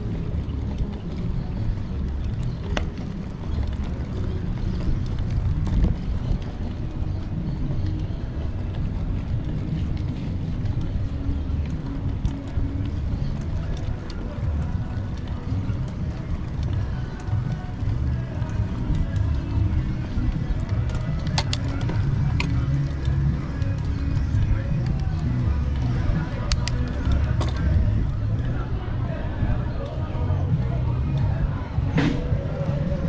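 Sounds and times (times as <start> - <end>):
faint road sounds: 0.0 - 33.0
wind rumbling on microphone: 0.0 - 33.0.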